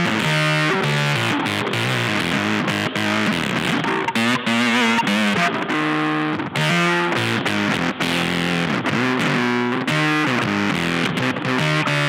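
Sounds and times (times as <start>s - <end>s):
electric guitar lead lines: 0.0s - 12.0s.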